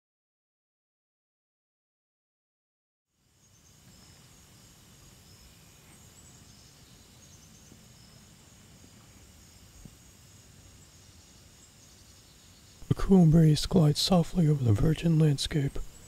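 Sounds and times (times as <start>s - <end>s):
crickets chirping: 3.1s - 16.0s.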